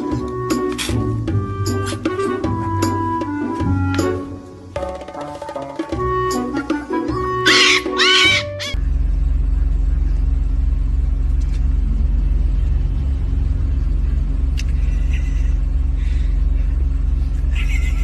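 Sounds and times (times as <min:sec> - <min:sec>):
loud low engine hum: 0:00.0 - 0:04.8, 0:08.1 - 0:18.0.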